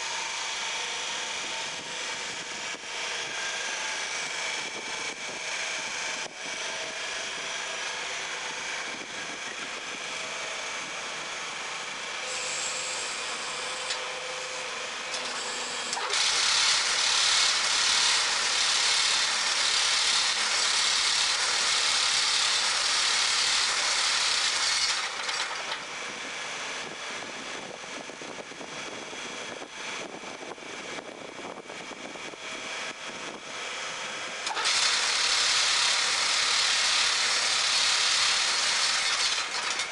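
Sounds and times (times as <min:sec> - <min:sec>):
hydraulic press running: 0:00.0 - 0:26.3, 0:34.2 - 0:39.9
loud harsh machine noise: 0:00.0 - 0:39.9.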